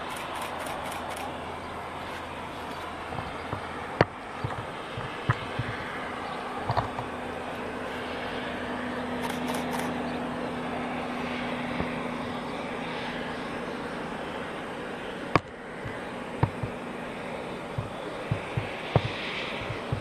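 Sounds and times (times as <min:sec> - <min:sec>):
distant steam train rumble: 0:00.0 - 0:20.0.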